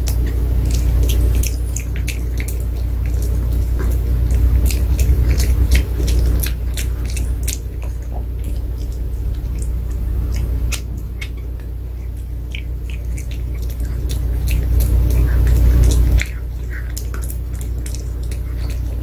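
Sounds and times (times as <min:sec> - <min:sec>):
dog crunching a hard treat: 0:00.0 - 0:19.0
steady low hum: 0:00.0 - 0:19.0.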